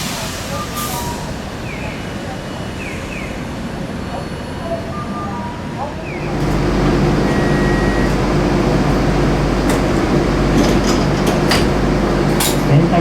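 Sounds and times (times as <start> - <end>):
tram equipment drone: 0.0 - 13.0.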